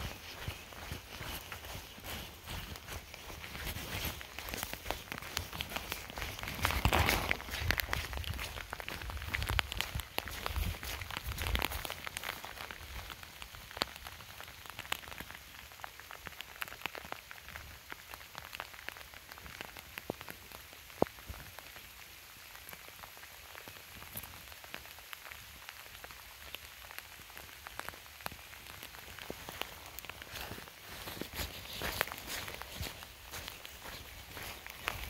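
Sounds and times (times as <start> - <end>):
light rain on vegetation: 0.0 - 35.0.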